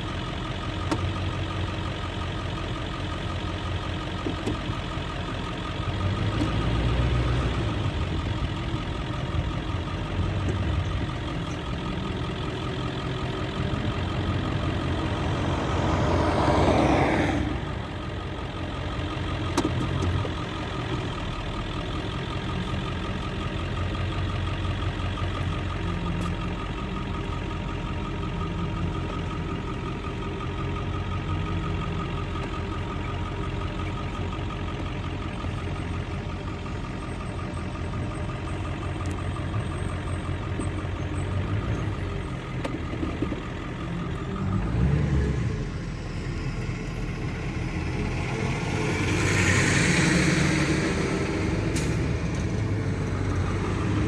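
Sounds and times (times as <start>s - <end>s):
farm machinery engine running: 0.0s - 54.0s.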